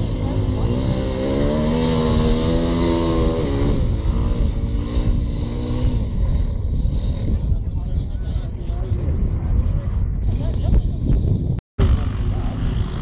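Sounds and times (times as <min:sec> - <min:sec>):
motorcycle engine under throttle: 0:00.0 - 0:08.2, 0:10.4 - 0:13.0.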